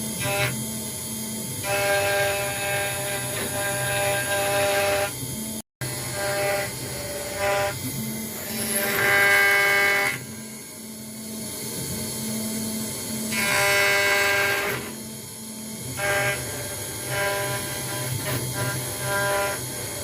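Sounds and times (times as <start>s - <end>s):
router motors whining: 0.0s - 20.0s.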